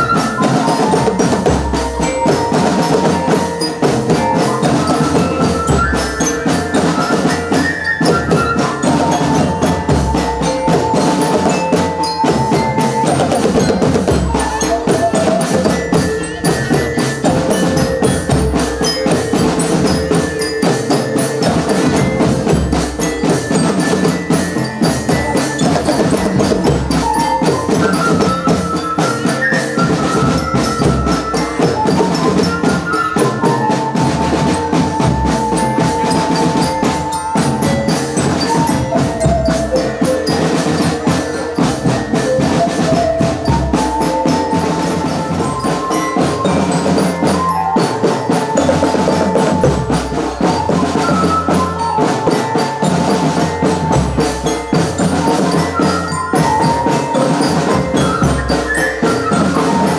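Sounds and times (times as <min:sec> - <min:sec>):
drums beat: 0:00.0 - 0:59.9
mallet percussion melody: 0:00.0 - 0:59.9.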